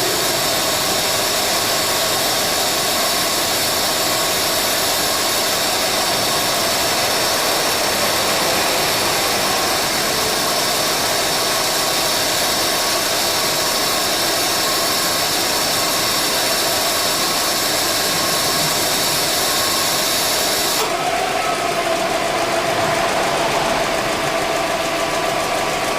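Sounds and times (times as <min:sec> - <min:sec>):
ac compressor hissing: 0:00.0 - 0:25.9
car engine running: 0:00.0 - 0:25.9.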